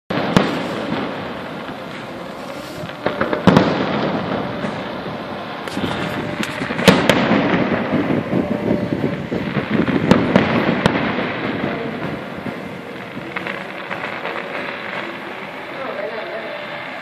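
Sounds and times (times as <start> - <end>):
firework shells bursting: 0.1 - 16.2
fireworks crackling: 0.1 - 17.0.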